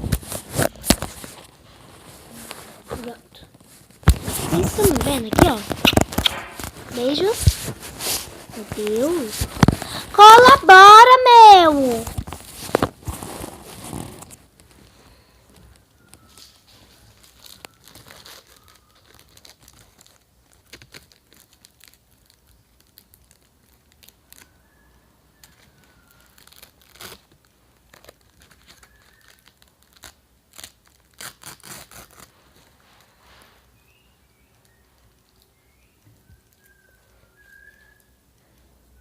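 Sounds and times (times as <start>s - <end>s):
plastic wrapper crinkling: 0.0s - 38.5s.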